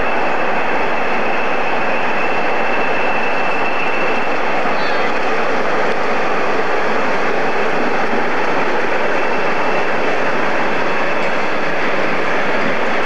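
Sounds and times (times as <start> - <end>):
diesel locomotive passing: 0.0 - 13.0.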